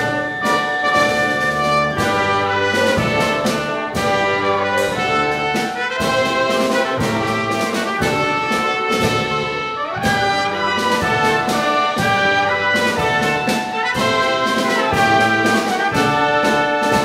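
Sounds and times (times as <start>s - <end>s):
brass and wind chords: 0.0s - 17.0s
percussion strokes: 0.0s - 17.0s.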